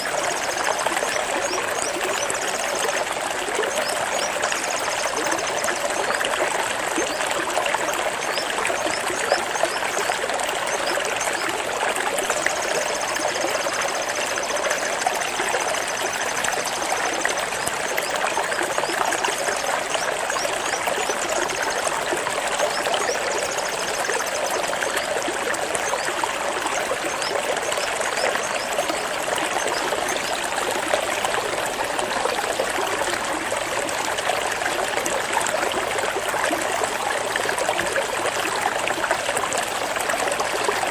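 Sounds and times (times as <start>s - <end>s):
water flowing steadily: 0.0s - 40.9s.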